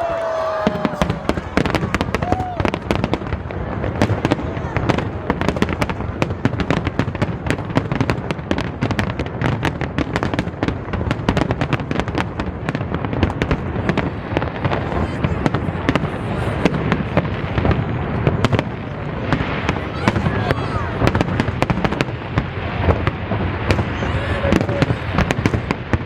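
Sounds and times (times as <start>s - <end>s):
fireworks cracking and popping: 0.0s - 26.0s.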